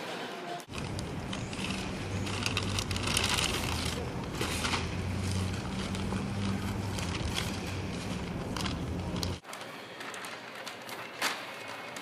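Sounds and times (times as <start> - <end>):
paper crinkling and rustling: 0.7 - 12.0.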